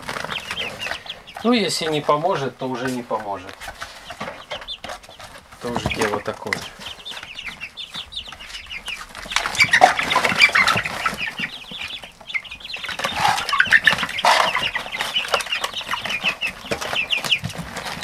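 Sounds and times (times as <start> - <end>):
chicks peeping: 0.0 - 18.0
wing flapping and scuffling: 0.0 - 18.0.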